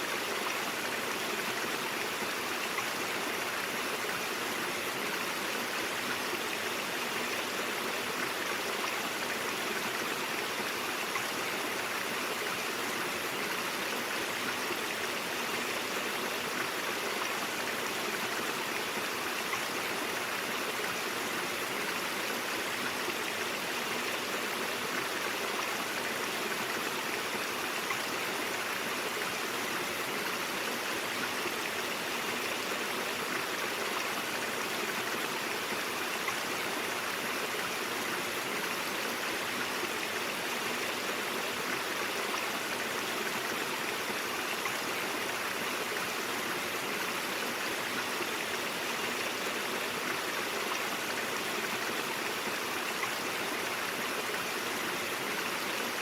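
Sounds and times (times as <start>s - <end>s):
brook flowing over rocks: 0.0s - 56.0s.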